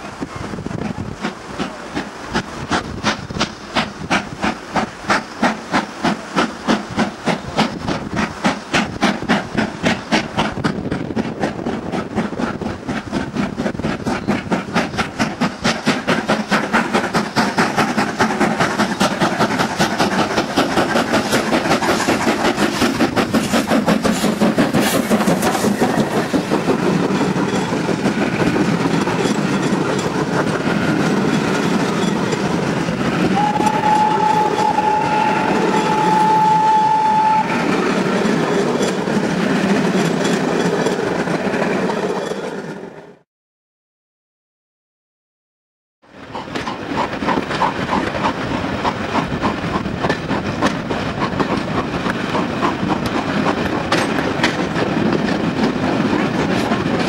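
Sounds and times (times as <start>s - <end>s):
steam locomotive exhaust beats: 0.0s - 42.2s, 46.1s - 57.0s.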